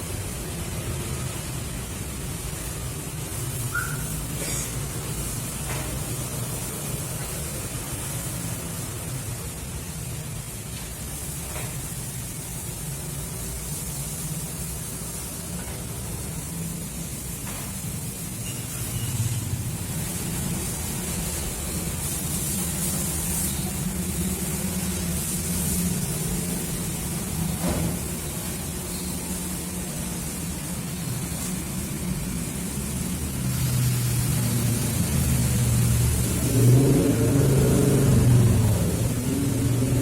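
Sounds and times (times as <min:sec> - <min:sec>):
faint hiss: 0:00.0 - 0:40.0.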